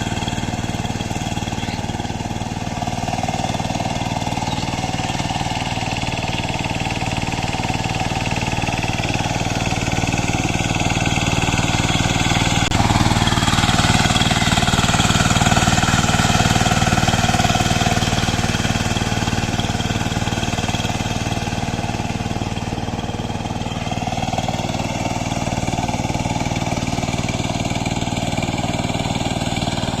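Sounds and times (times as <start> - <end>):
power tiller engine running: 0.0 - 30.0.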